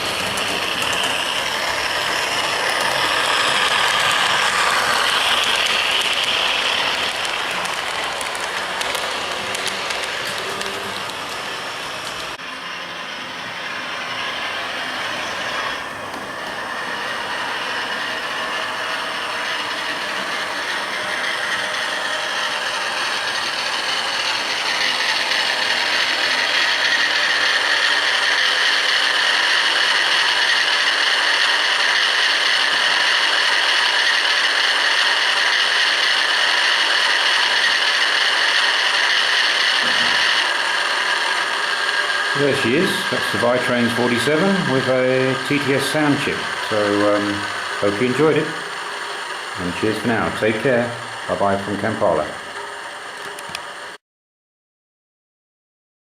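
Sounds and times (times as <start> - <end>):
model gear drive whirr: 0.0 - 54.0
synthesised diesel engine sound: 0.0 - 54.0.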